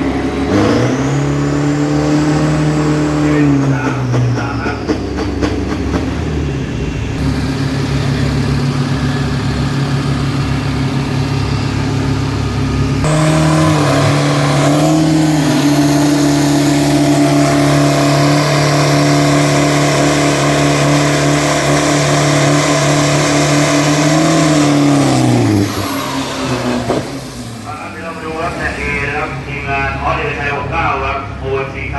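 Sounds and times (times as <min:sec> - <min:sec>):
diesel pickup engine revving: 0:00.0 - 0:31.9.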